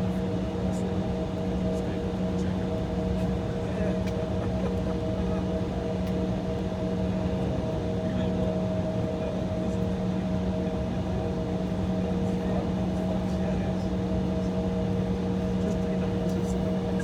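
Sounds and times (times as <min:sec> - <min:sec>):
aircraft cabin engine drone: 0:00.0 - 0:17.0.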